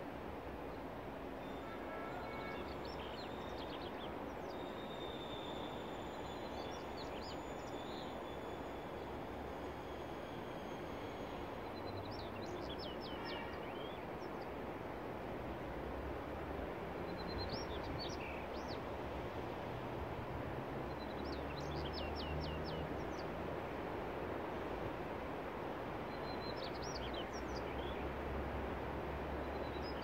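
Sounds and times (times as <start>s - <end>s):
outdoor background noise: 0.0s - 30.0s
songbird singing: 0.7s - 15.2s, 16.9s - 19.0s, 20.6s - 30.0s.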